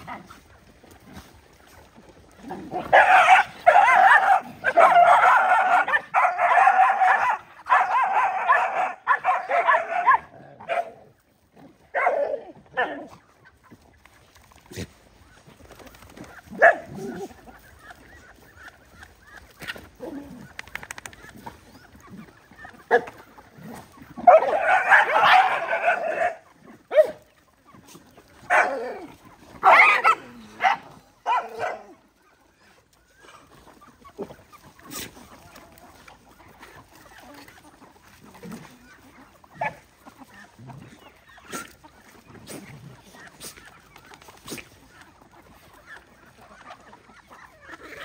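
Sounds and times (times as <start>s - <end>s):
dogs barking and snarling: 0.0s - 48.0s.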